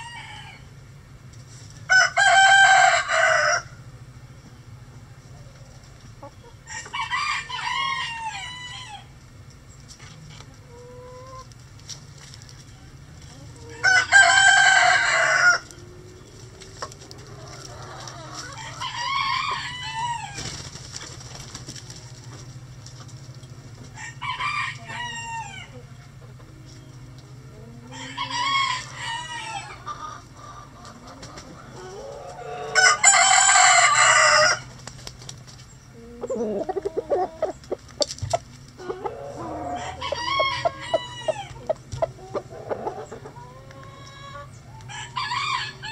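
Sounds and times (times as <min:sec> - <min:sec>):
roosters crowing: 0:00.0 - 0:01.0, 0:01.7 - 0:04.1, 0:05.2 - 0:09.3, 0:12.9 - 0:35.0, 0:35.8 - 0:45.9
chickens clucking: 0:01.3 - 0:45.9.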